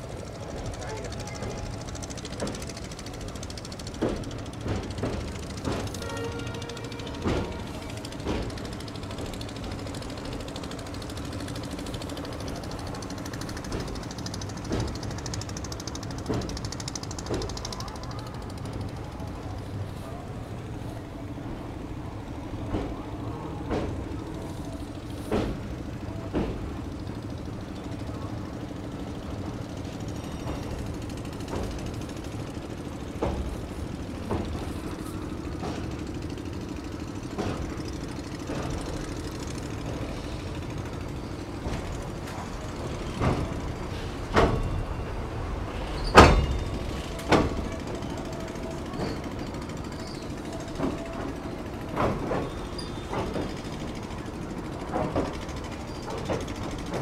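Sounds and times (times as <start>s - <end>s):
train rumbling over bridge: 0.0s - 57.0s
wheels clanking over rail joints: 0.0s - 57.0s.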